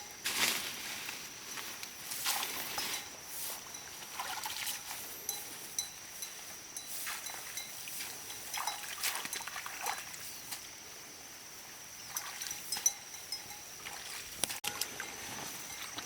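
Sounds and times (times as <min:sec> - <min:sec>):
water trickling and splashing: 0:01.5 - 0:10.9, 0:11.7 - 0:16.0.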